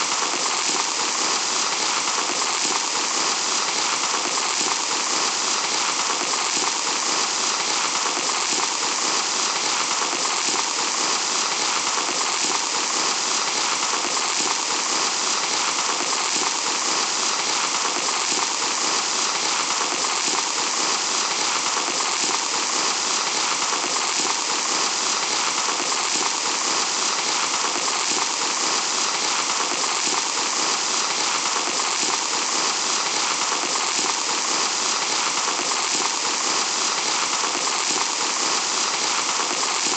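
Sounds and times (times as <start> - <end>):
sand trickling: 0.0 - 39.9.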